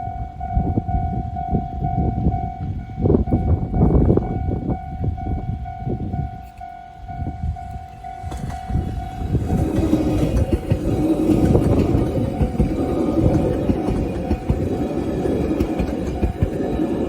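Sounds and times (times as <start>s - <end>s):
level crossing warning bell: 0.0s - 17.0s
train passing with rumbling: 0.0s - 17.0s.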